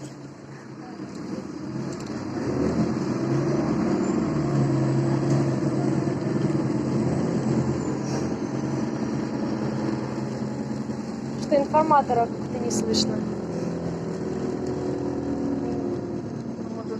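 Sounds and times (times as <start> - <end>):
bus engine droning: 0.0 - 16.9.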